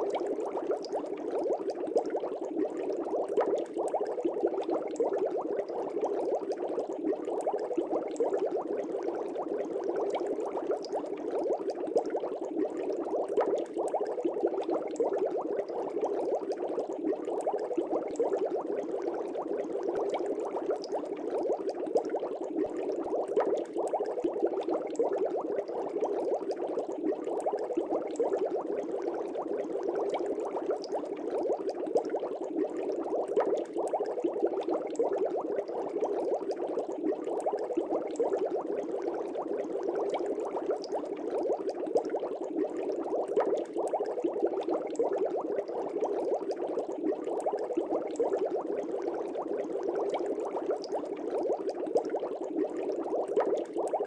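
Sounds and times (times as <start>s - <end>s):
aquarium air bubbles gurgling: 0.0s - 54.0s.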